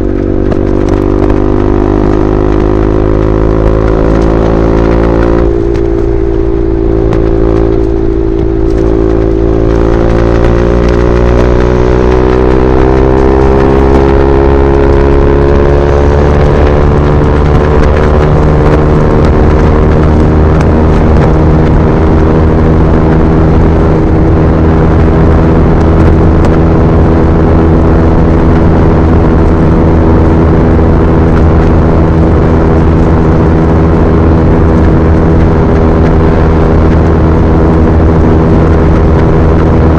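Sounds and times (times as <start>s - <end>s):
motorcycle engine at highway speed: 0.0s - 39.9s.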